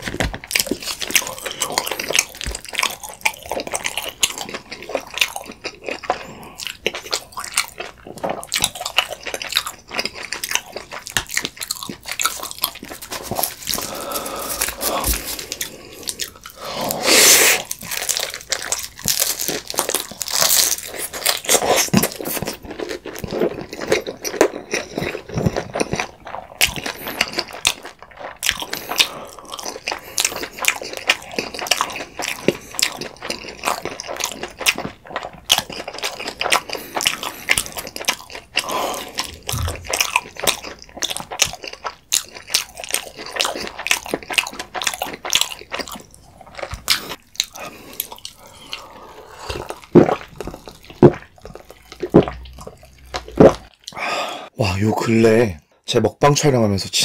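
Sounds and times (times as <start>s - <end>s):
crunchy pizza chewing: 0.0s - 54.1s.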